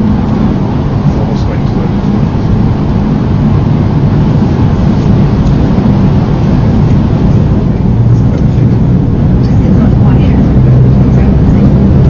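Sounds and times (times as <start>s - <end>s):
train cabin rumble and hum: 0.0s - 12.0s.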